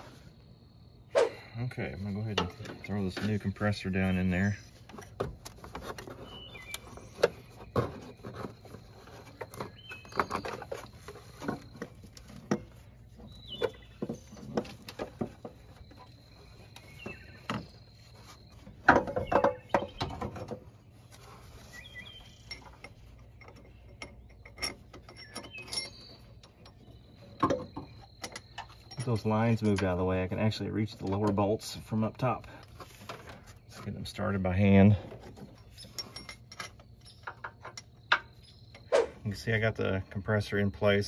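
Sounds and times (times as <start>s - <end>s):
metal clunks and scrapes: 1.2s - 39.5s.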